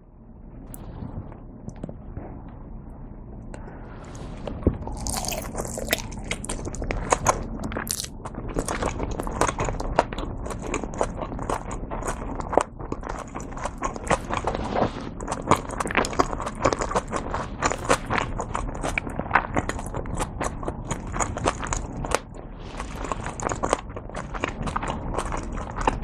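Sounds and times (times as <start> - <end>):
wet chewing: 4.0 - 26.0.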